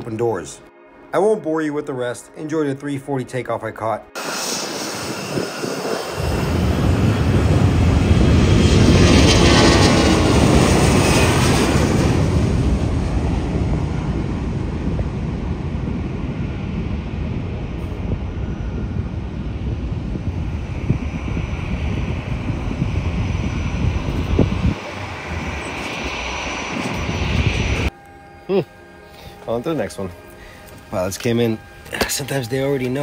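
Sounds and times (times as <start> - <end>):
jet airliner taking off: 4.1 - 33.0.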